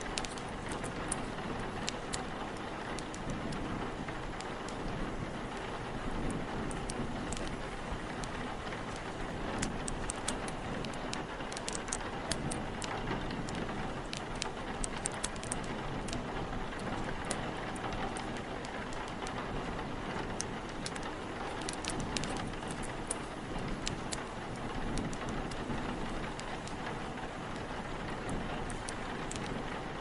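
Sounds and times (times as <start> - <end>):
steady rain: 0.0 - 30.0
wood fire crackling: 0.0 - 30.0.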